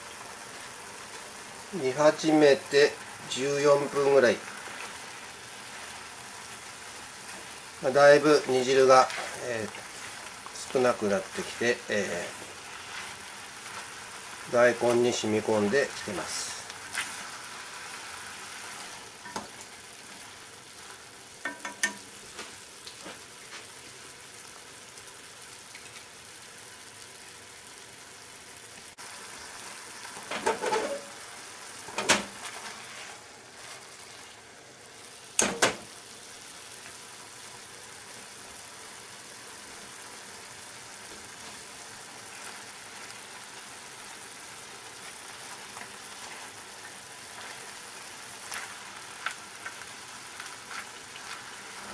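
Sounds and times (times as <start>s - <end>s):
broth sizzling and bubbling: 0.0s - 51.9s.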